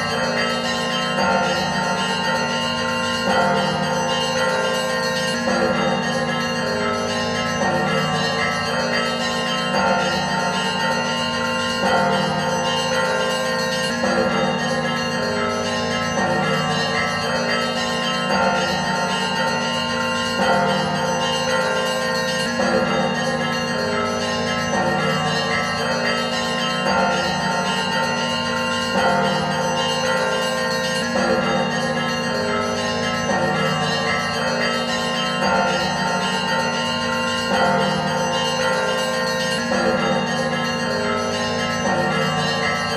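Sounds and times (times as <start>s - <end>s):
church bells pealing: 0.0s - 42.9s.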